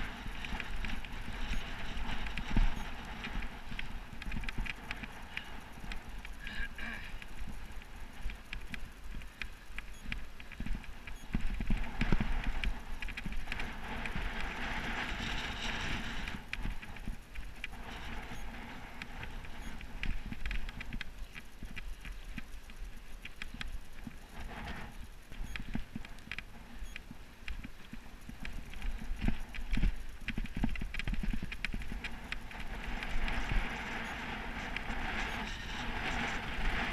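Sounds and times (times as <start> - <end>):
bike clicks and rattles: 0.0 - 36.9
wind rumble: 0.0 - 36.9.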